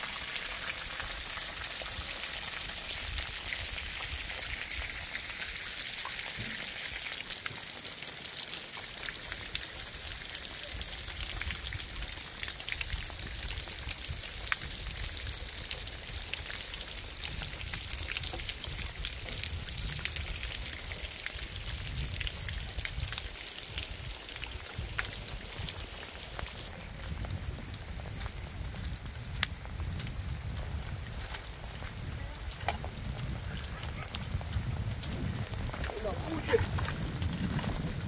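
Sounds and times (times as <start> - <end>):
heavy rain falling: 0.0 - 38.0
rainwater pouring off roof: 0.0 - 38.0
raindrops ticking: 5.7 - 38.0.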